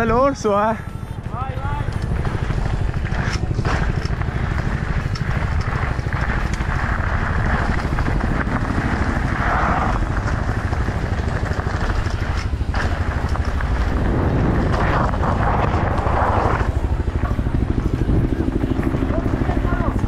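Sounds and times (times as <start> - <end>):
motorcycle engine running: 0.0 - 20.0
wind noise on microphone: 0.9 - 20.0.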